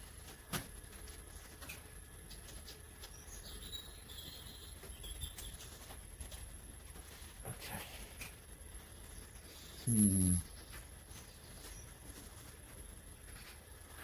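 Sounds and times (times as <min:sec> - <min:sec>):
faint clicks and scratchy rustling: 0:00.0 - 0:03.2, 0:04.8 - 0:09.9, 0:10.6 - 0:14.0.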